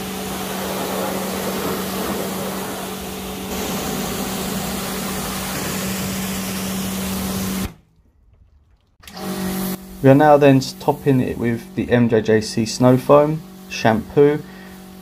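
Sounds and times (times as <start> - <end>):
water jet hissing: 0.0 - 7.8, 9.0 - 15.0
pressure washer motor hum: 0.0 - 15.0.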